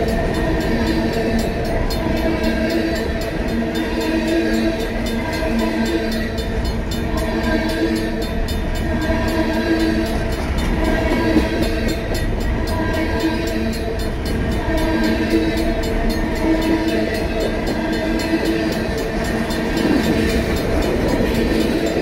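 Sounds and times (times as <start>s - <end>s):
freight train wheels rumbling: 0.0s - 22.0s
railroad crossing bells ringing: 0.0s - 22.0s.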